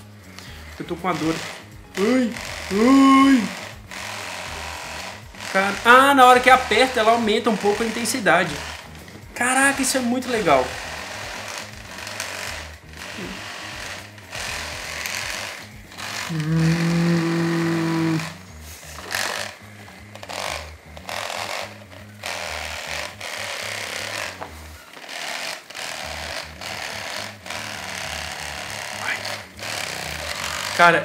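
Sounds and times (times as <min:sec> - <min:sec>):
massage gun hammering buzz: 0:00.0 - 0:31.0.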